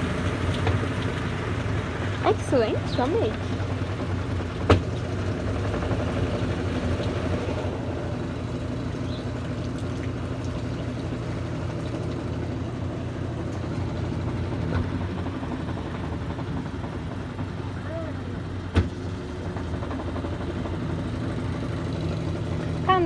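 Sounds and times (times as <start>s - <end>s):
washing machine motor hum: 0.0s - 23.0s.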